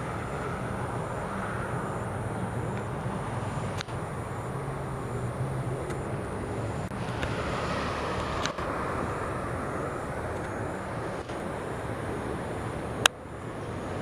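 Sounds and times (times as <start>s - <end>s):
road traffic noise: 0.0s - 14.0s
vehicle passing: 0.0s - 14.0s.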